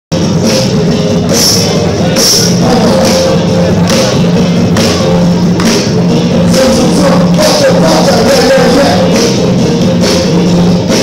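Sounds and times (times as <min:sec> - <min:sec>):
loud dance music: 0:00.1 - 0:11.0.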